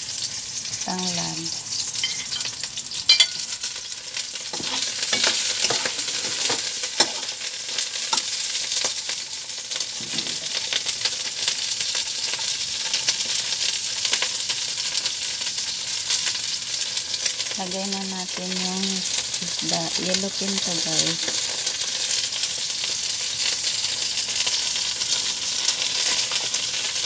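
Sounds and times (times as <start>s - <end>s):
onion sizzling in hot oil: 0.0s - 27.0s.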